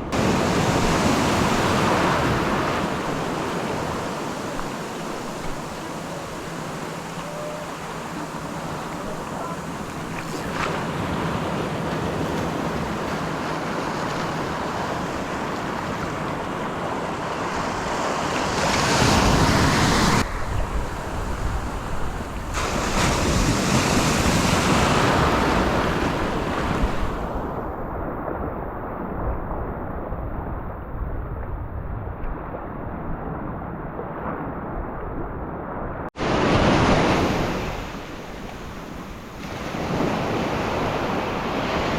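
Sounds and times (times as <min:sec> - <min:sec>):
ocean surf on a beach: 0:00.0 - 0:29.4, 0:35.4 - 0:41.9
wind on microphone: 0:00.0 - 0:41.9.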